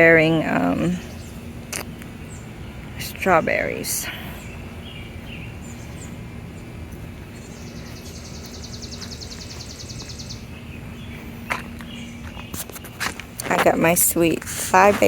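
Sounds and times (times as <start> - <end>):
faint steady hum: 0.0 - 15.0
low outdoor rumble: 0.0 - 15.0.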